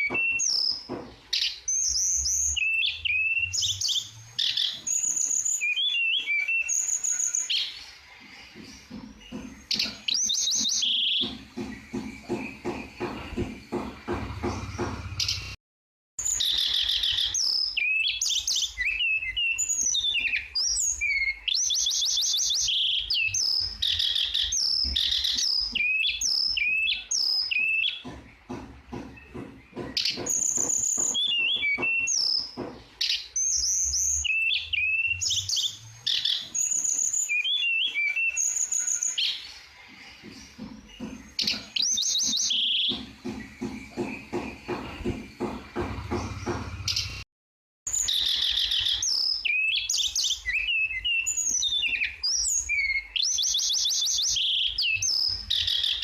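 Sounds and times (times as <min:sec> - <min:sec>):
songbird whistles and trills: 0:00.0 - 0:15.6, 0:16.2 - 0:45.6, 0:47.9 - 0:56.0.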